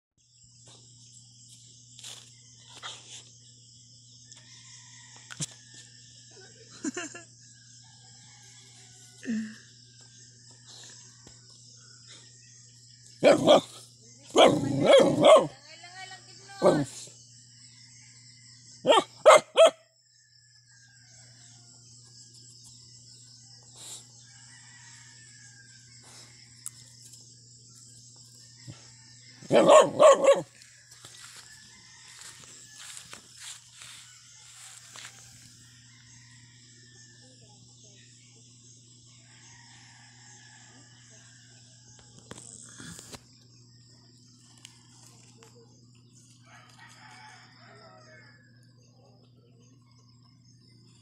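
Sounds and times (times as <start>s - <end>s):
insects chirring: 0.2s - 51.0s.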